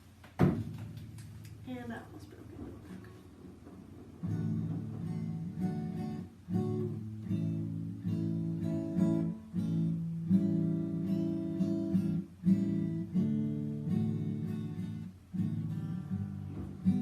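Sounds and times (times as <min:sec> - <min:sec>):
acoustic guitar strumming chords: 0:00.5 - 0:17.0.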